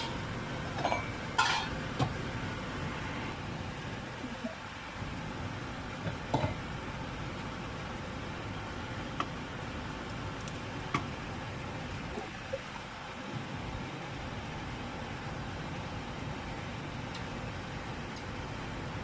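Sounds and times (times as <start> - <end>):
pot of water boiling: 0.0 - 19.0.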